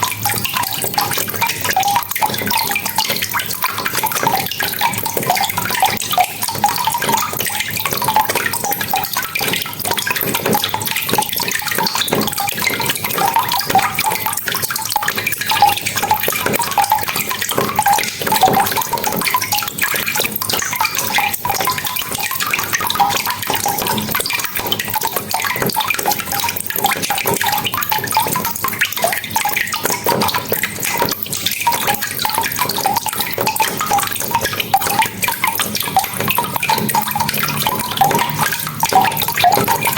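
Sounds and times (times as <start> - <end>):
water drops dripping: 0.0 - 39.9.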